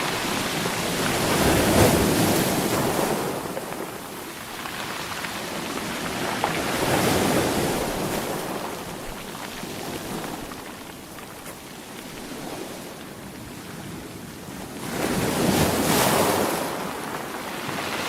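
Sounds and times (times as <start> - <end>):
sea waves crashing on shore: 0.0 - 18.0.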